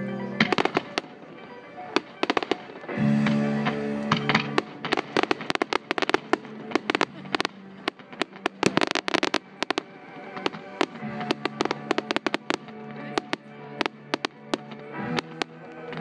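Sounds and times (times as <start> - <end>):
music playing: 0.0 - 16.0
fireworks bangs and crackles: 0.4 - 16.0.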